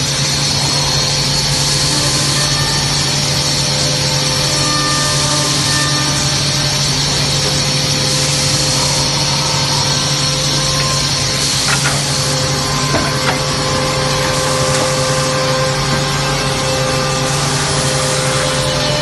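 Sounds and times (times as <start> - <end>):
woodworking machine humming: 0.0 - 19.0.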